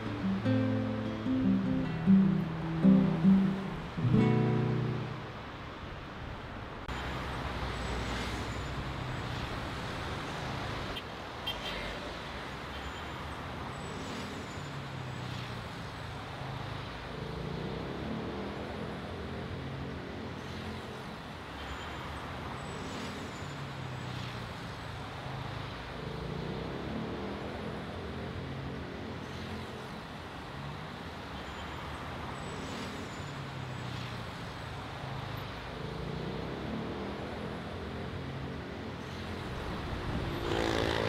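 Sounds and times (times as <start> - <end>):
passing cars and buses: 0.0 - 41.0.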